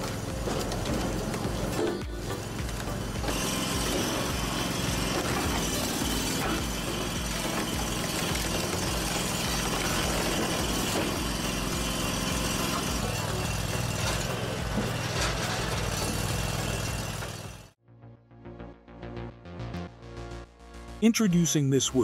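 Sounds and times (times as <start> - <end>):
small engine running: 0.0 - 17.8.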